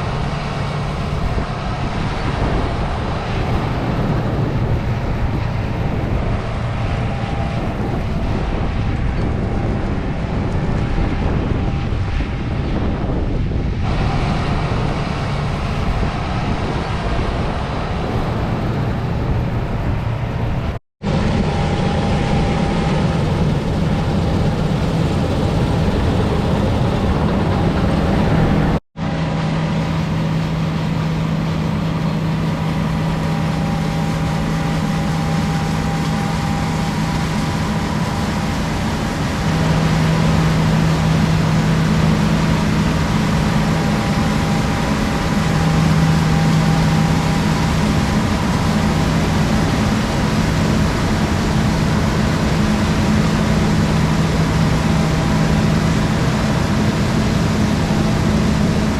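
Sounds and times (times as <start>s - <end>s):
diesel machinery engine hum: 0.0s - 58.9s.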